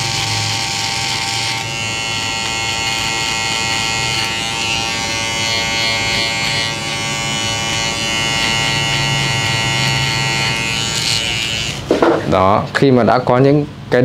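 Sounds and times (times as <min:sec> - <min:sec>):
electric hair trimmer buzzing: 0:00.0 - 0:12.2.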